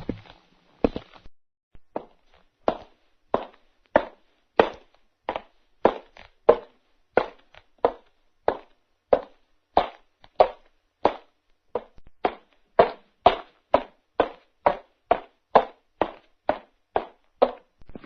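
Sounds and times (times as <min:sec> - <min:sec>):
footsteps walking: 0:00.0 - 0:18.0.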